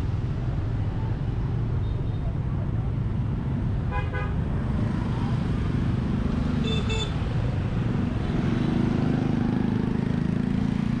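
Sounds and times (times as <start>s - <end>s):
motorbikes and cars passing: 0.0s - 11.0s.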